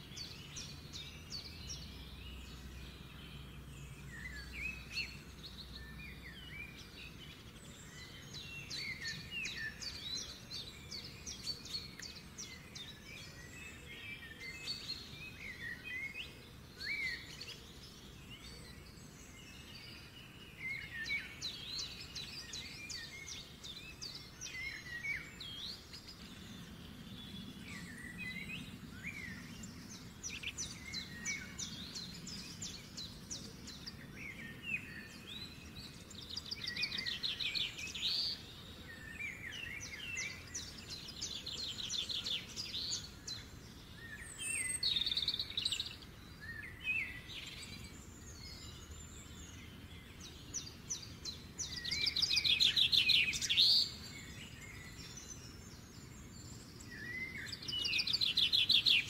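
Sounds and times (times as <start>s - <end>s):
birds chirping and trilling: 0.0s - 59.0s
low background hiss: 0.0s - 59.0s.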